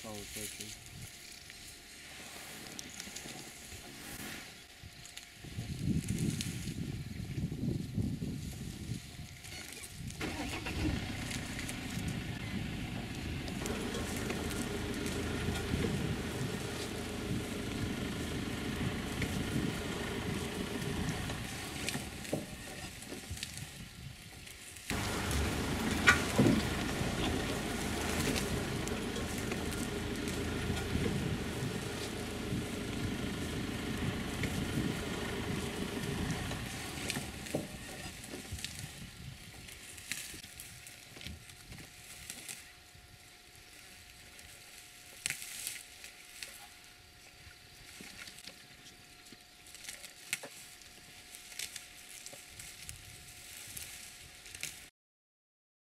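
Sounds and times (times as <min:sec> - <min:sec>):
grass rustling and chewing: 0:00.0 - 0:54.9.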